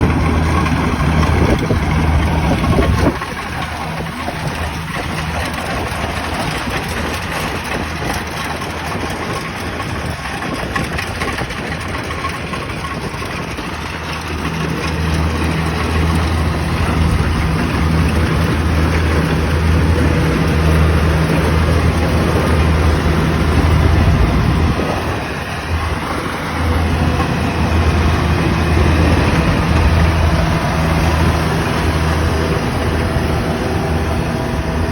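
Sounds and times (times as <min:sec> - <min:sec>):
diesel engine running: 0:00.0 - 0:34.9
machine clatter: 0:00.0 - 0:34.9.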